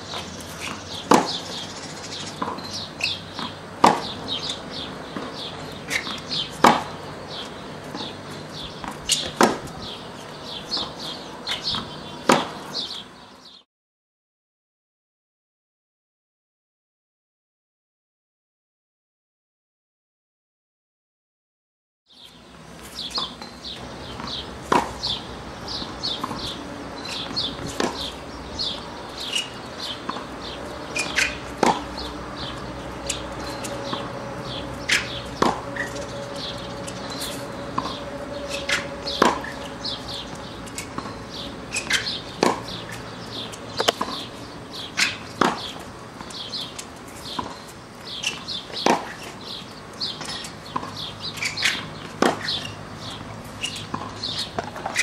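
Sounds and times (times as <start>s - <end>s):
small birds chirping: 0.0s - 13.7s, 22.1s - 55.0s
tennis ball struck by racquet: 0.1s - 1.6s, 2.3s - 13.0s, 22.8s - 55.0s
tennis ball bouncing: 0.1s - 1.7s, 2.3s - 13.0s, 22.3s - 55.0s.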